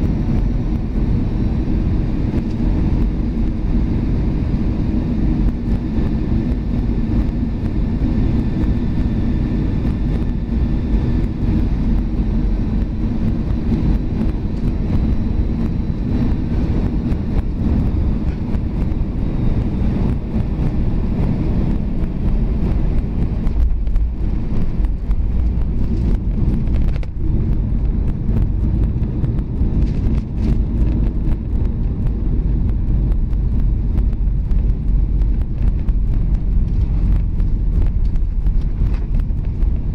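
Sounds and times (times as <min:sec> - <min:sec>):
aircraft engine and airflow rush: 0:00.0 - 0:39.9
faint whine: 0:00.0 - 0:39.9
wheels rumbling on runway: 0:00.0 - 0:39.9.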